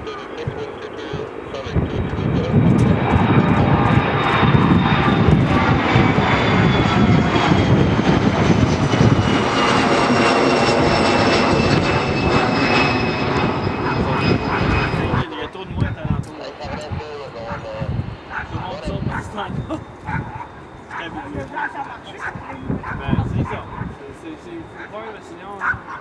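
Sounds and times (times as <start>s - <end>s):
airliner engines rumbling and whining: 0.0s - 26.0s.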